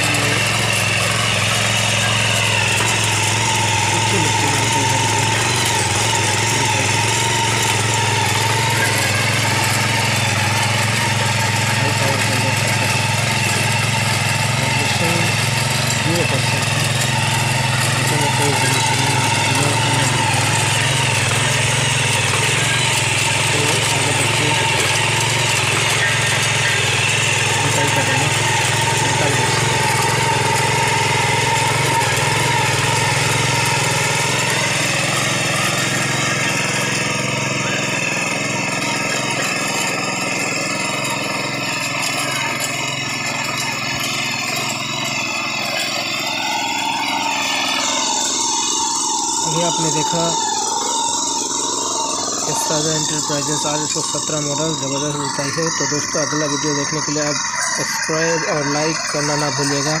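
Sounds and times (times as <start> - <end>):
power tiller engine running: 0.0 - 60.0
tines churning soil: 0.0 - 60.0.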